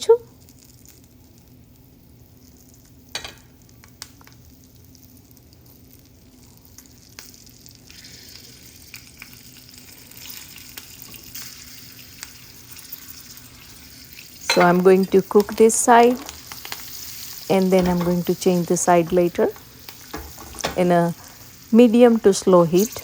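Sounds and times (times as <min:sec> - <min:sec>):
peppers sizzling in hot oil: 0:00.0 - 0:23.0.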